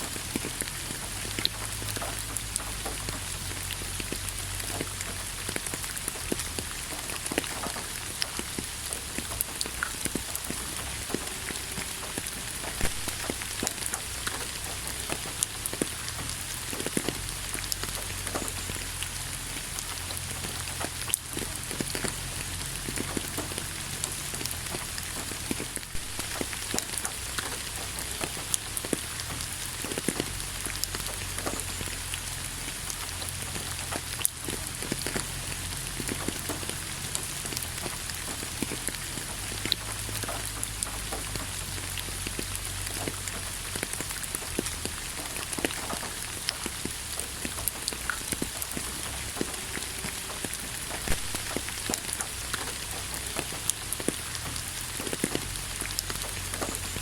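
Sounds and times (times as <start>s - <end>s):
sharp raindrop impacts: 0.0s - 57.0s
steady rain hiss: 0.0s - 57.0s.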